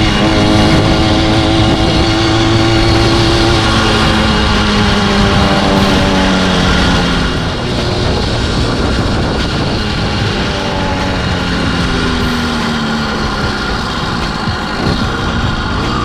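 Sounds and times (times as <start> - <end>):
two-stroke engine droning: 0.0 - 16.0.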